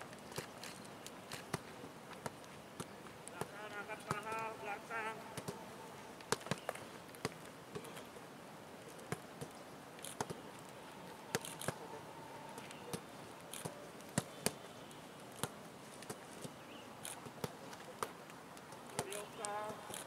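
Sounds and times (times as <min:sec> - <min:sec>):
faint open-air background: 0:00.0 - 0:20.0.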